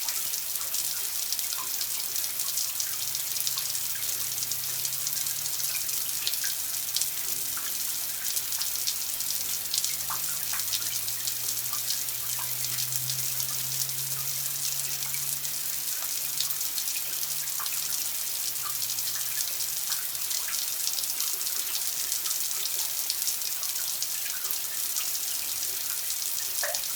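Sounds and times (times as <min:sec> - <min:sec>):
drip-like ticks: 0:00.0 - 0:26.9
running water splashing: 0:00.0 - 0:26.9.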